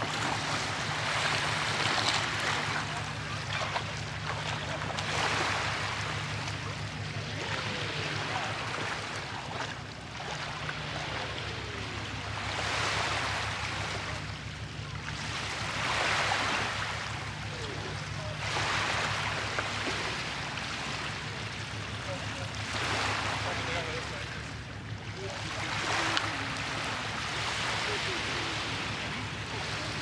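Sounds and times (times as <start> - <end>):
steady low hum: 0.0 - 30.0
water swishing: 0.0 - 30.0.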